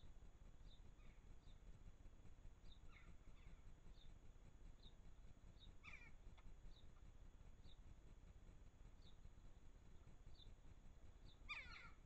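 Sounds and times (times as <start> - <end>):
small bird chirping: 0.0 - 1.7, 2.6 - 7.9, 8.9 - 12.0
lower bird calls: 0.0 - 1.8, 2.6 - 8.0, 8.9 - 12.0
low steady rumble: 0.0 - 12.0.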